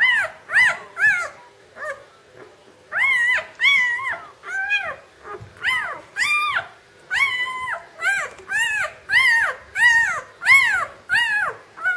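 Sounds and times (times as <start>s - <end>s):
puppies squealing: 0.0s - 2.1s, 2.9s - 11.9s.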